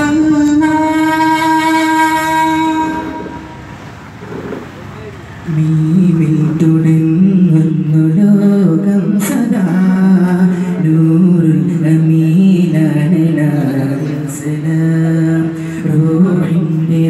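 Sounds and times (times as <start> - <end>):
man singing into microphone: 0.0 - 3.6, 5.4 - 17.0.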